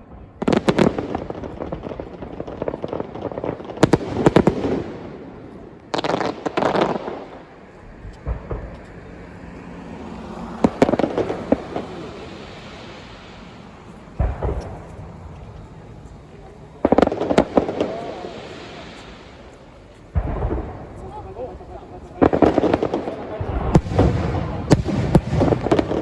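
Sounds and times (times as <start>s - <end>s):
firework bangs: 0.0s - 26.0s
firework crackling: 0.0s - 26.0s
rolling echo: 0.0s - 26.0s.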